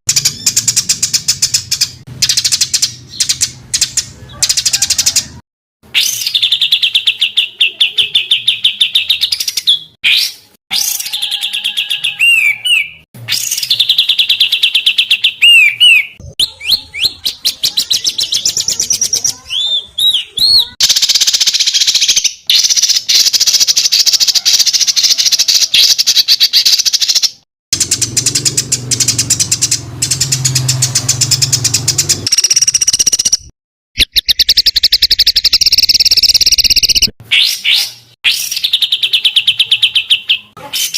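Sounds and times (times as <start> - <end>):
songbird trills and chattering: 0.1 - 5.3, 6.0 - 40.9.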